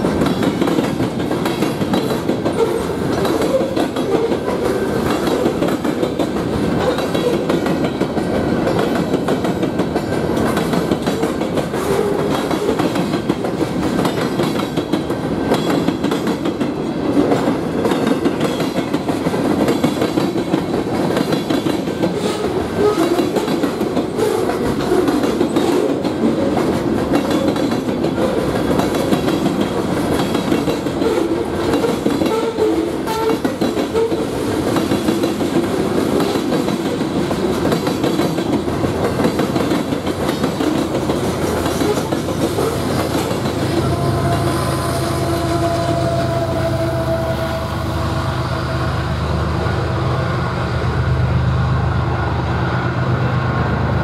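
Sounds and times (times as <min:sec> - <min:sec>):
train wheels clattering on rails: 0:00.0 - 0:46.9.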